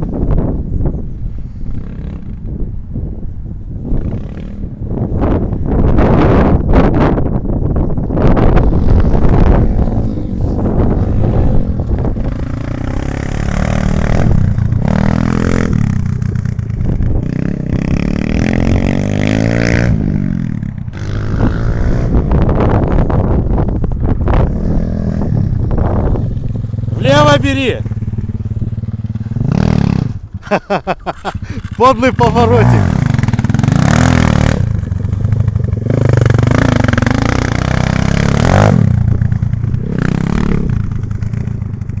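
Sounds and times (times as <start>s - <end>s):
motorcycle engine revving: 8.2s - 42.0s.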